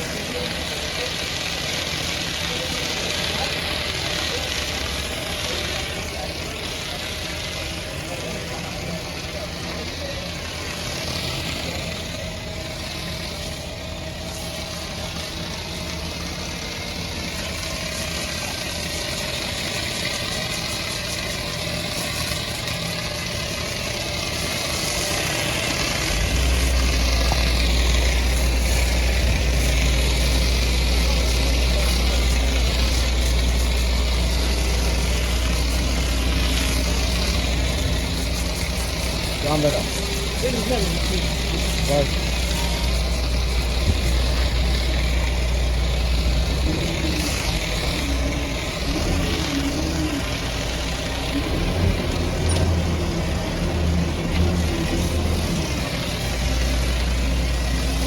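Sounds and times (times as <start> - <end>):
engine idling: 0.0 - 58.0
steady hiss: 0.0 - 58.0.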